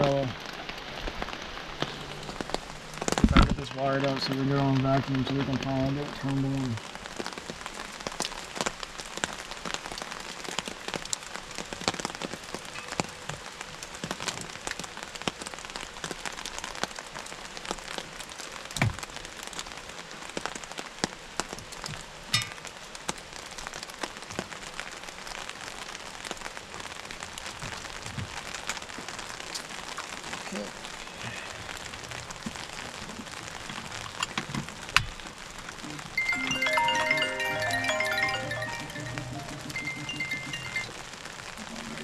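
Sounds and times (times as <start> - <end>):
rain drops clicking: 0.0 - 31.1, 31.7 - 42.0.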